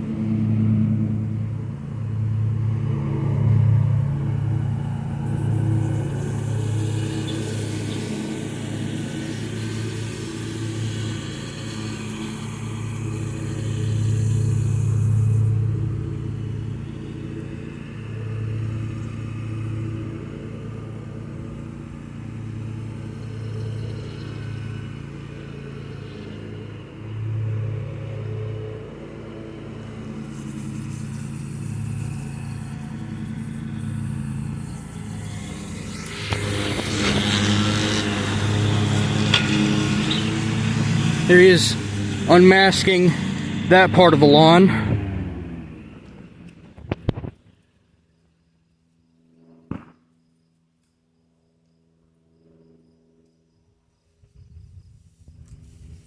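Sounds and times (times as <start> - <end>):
riding lawn mower engine: 0.0 - 49.9, 54.1 - 56.0.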